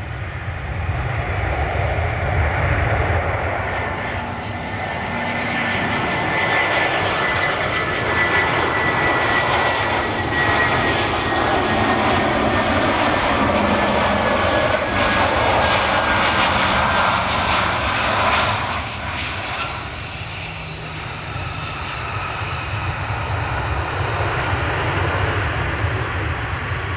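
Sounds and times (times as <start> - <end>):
jet airliner engines roaring: 0.0 - 26.9.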